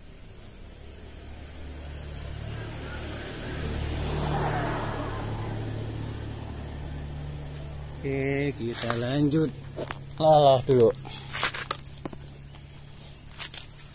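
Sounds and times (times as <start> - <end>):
motor vehicle passing: 0.0 - 13.9.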